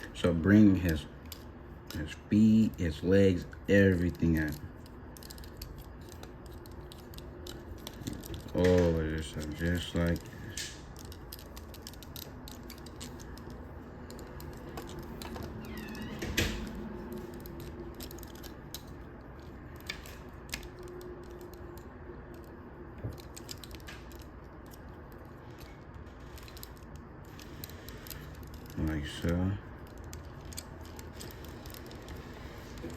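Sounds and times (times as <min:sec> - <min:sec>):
plastic toy joints clicking: 0:00.8 - 0:22.5, 0:23.1 - 0:32.9.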